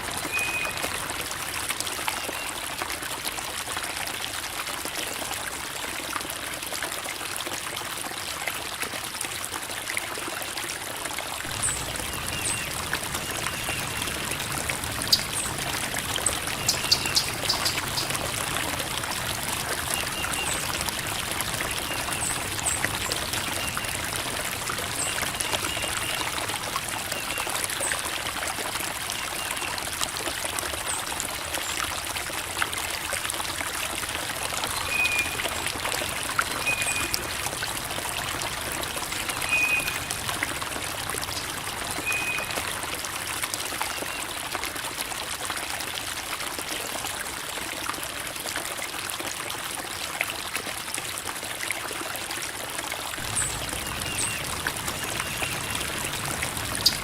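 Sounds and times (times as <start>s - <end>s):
creek water babbling over rocks: 0.0s - 57.0s.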